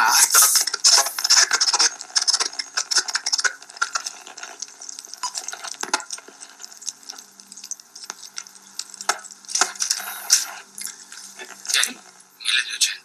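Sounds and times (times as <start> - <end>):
radio static crackling and clicks: 0.0 - 13.0.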